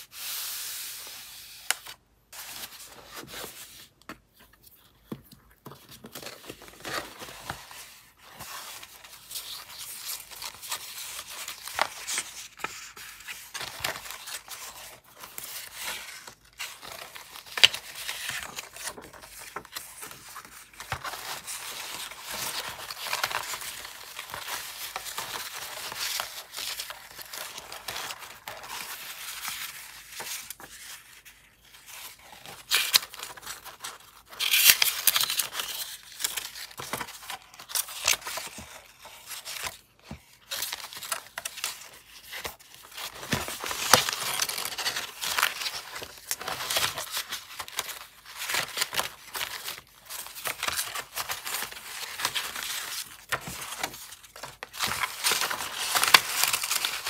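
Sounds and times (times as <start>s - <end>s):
paper rustling and crinkling: 0.0s - 57.0s.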